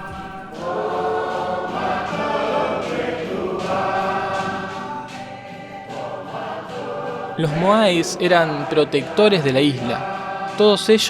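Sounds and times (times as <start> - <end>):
group singing in harmony: 0.0 - 11.0.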